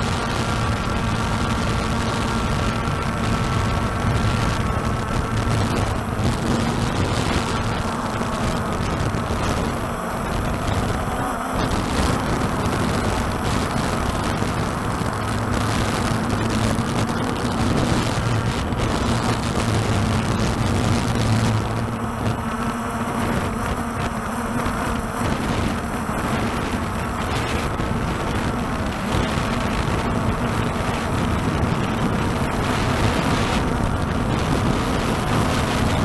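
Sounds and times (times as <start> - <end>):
drone rotors humming: 0.0 - 36.0
wind noise on microphone: 0.0 - 36.0.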